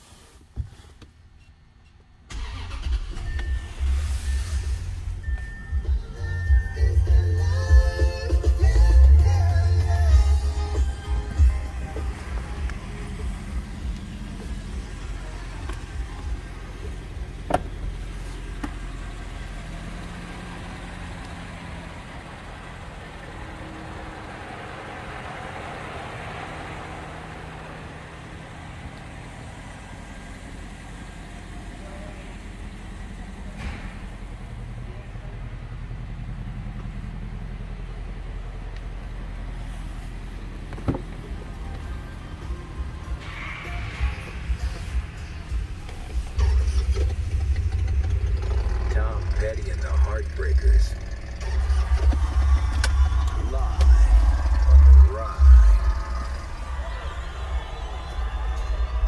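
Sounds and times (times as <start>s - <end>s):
car engine idling: 1.1s - 59.0s.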